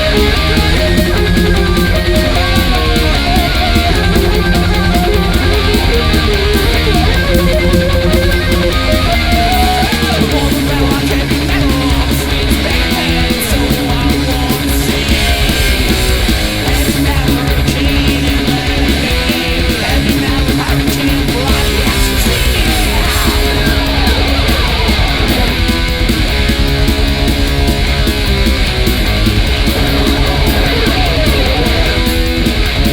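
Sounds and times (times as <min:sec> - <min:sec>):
thrash metal band playing: 0:00.0 - 0:32.9.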